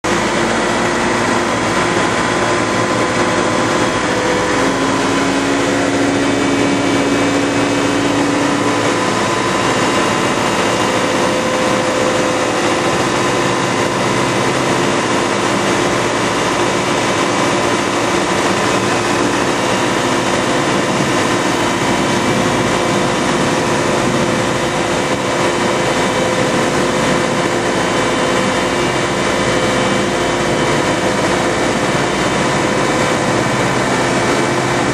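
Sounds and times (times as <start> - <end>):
marine thruster mechanical hum: 0.0 - 34.9
propeller churning water: 0.0 - 34.9.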